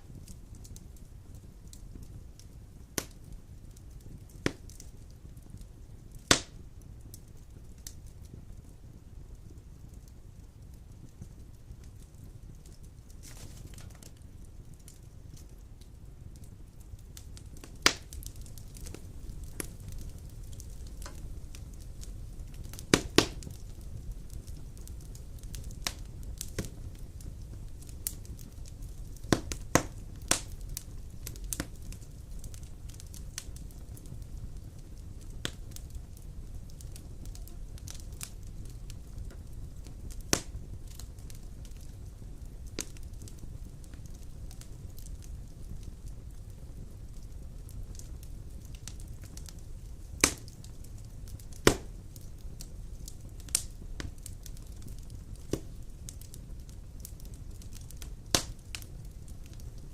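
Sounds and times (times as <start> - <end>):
fire low rumble: 0.0 - 59.9
wood fire crackles and pops: 0.0 - 59.9.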